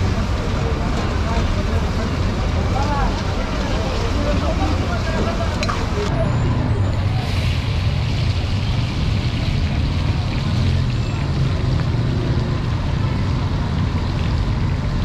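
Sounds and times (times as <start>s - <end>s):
passing traffic: 0.0s - 15.0s.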